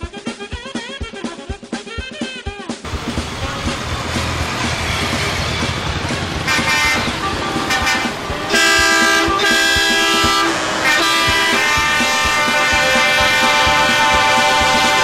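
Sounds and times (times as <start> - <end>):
truck horns honking: 2.9 - 15.0.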